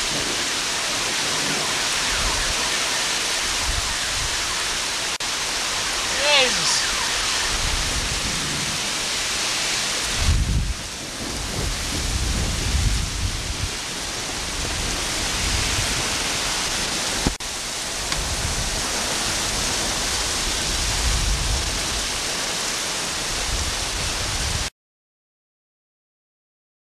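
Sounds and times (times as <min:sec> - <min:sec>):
heavy rain falling: 0:00.0 - 0:24.7.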